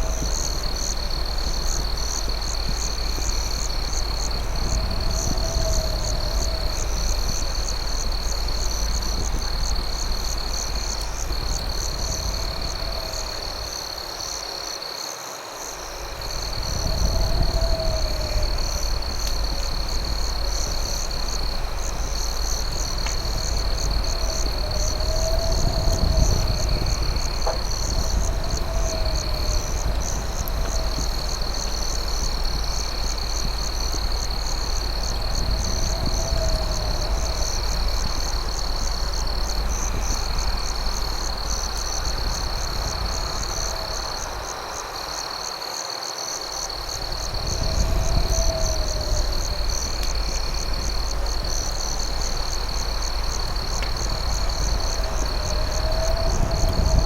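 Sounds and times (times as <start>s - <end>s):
campfire crackles: 0.0s - 14.8s, 15.5s - 45.6s, 46.4s - 57.0s
crickets trilling: 0.0s - 57.0s.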